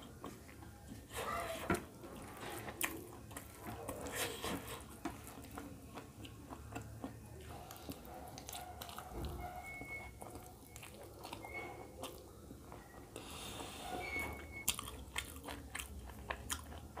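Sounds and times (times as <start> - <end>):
person chewing: 0.0 - 9.2, 9.8 - 13.8, 14.6 - 17.0.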